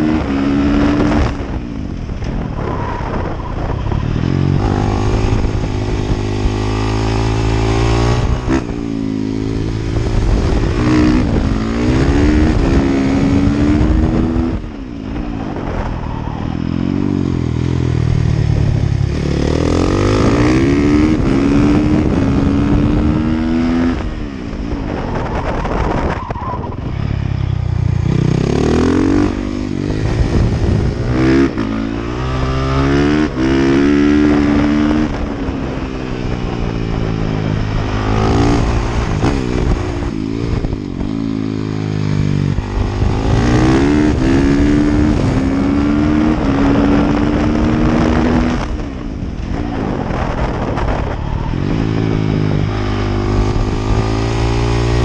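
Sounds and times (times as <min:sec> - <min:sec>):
motorcycle engine revving hard: 0:00.0 - 0:14.8, 0:15.4 - 0:26.3, 0:27.7 - 0:55.0.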